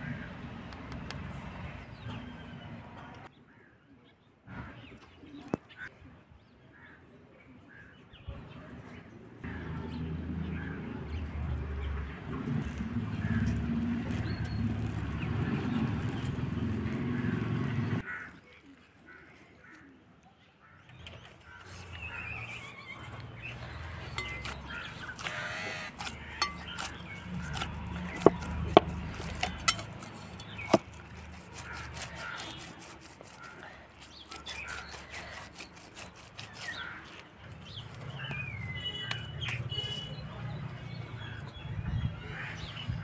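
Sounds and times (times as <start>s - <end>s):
birds chirping: 7.8s - 43.0s.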